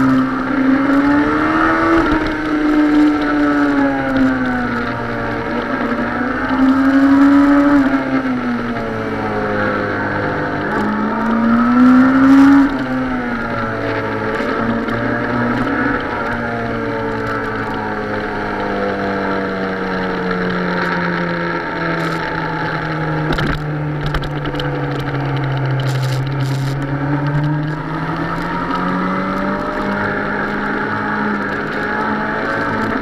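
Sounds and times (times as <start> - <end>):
motorcycle engine running: 0.0 - 33.0
wind noise: 0.0 - 33.0.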